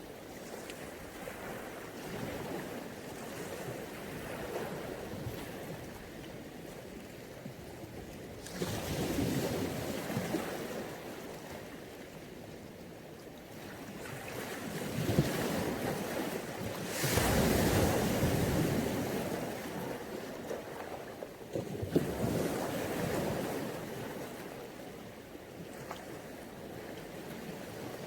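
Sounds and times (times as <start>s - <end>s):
sea waves breaking on shore: 0.0s - 12.6s, 13.4s - 28.0s.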